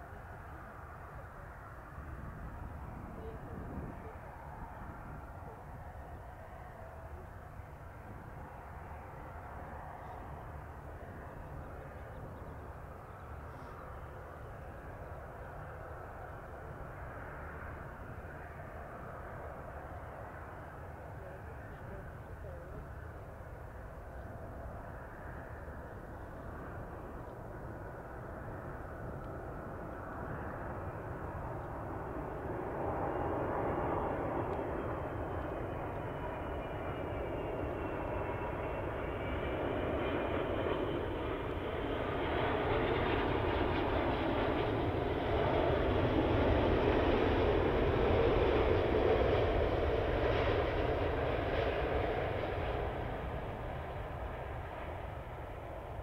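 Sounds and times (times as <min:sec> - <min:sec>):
faint high engine whine: 0:00.0 - 0:56.0
jet engines rumbling: 0:00.0 - 0:56.0.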